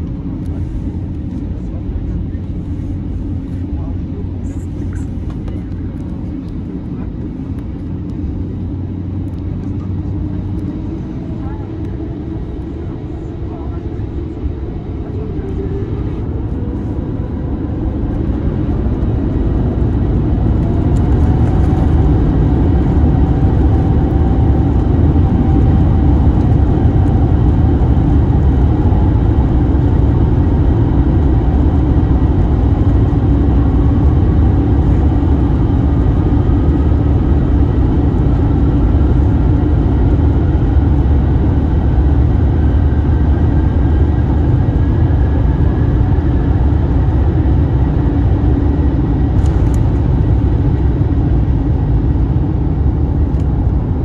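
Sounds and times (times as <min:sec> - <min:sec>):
jet engine rumble in cabin: 0:00.0 - 0:54.0
rising engine whine: 0:00.0 - 0:54.0.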